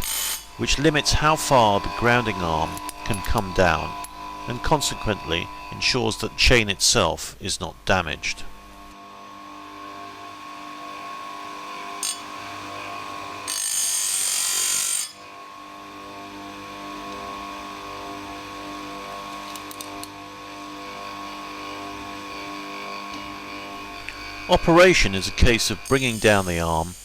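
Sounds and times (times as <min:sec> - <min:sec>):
chain grinder motor hum: 0:00.0 - 0:06.6, 0:08.8 - 0:27.0
grinding wheel grinding metal: 0:00.0 - 0:07.0, 0:10.0 - 0:27.0.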